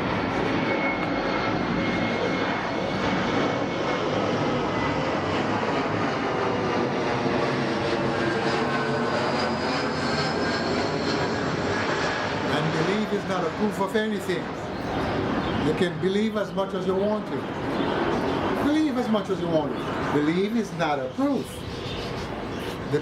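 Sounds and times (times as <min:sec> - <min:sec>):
aircraft flying over: 0:00.0 - 0:23.0.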